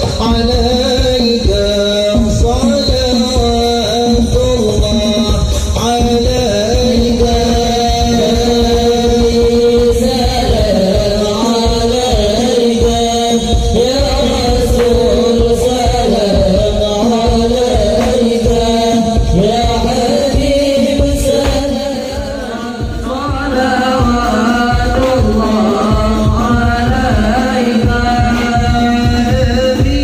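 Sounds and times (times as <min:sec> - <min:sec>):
frame drums beat: 0:00.0 - 0:30.0
group singing in unison: 0:00.0 - 0:30.0.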